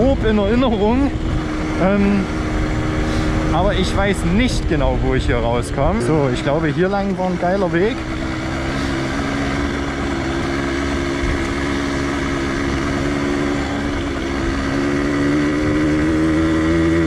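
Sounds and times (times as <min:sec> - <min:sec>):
steady rushing noise: 0:00.0 - 0:17.0
two-stroke motorcycle engine: 0:00.0 - 0:17.0.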